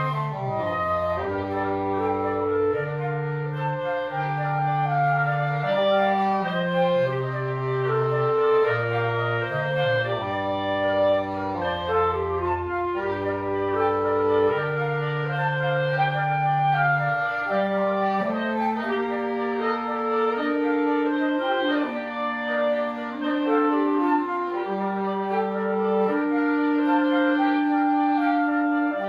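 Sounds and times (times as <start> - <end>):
woodwind quintet playing: 0.0 - 29.0.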